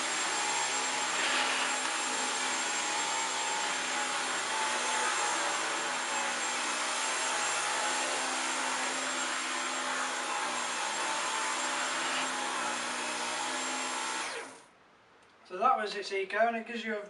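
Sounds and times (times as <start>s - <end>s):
vacuum cleaner running: 0.0s - 14.7s.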